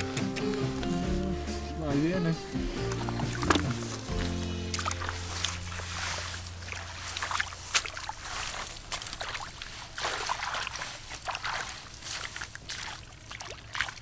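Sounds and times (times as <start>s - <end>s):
muddy water splashing and sloshing: 0.0s - 14.0s.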